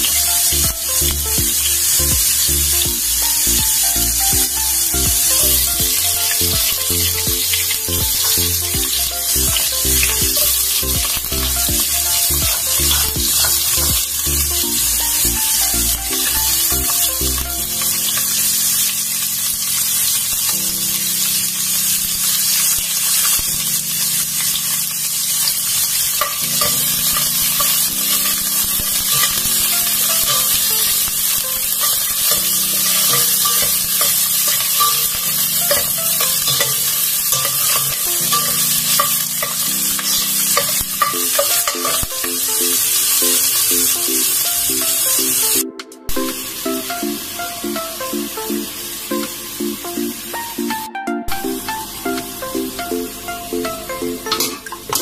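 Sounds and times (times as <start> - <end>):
garlic and onion sizzling in oil: 0.0 - 47.2
background music: 0.0 - 55.0.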